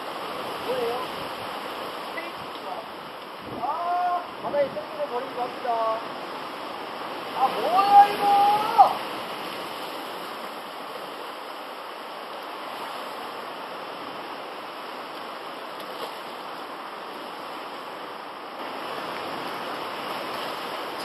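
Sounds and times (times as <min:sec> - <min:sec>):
sea surf on rocky shore: 0:00.0 - 0:21.0.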